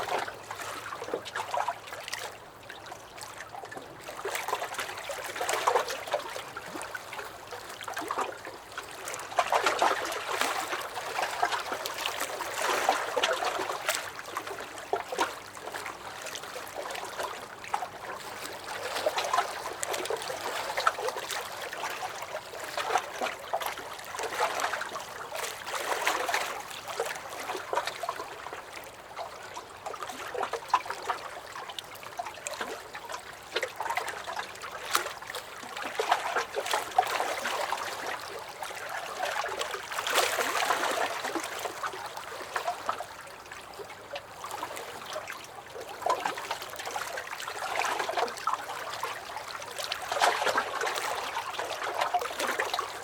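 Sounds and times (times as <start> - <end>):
waves lapping against a dock: 0.0 - 53.0.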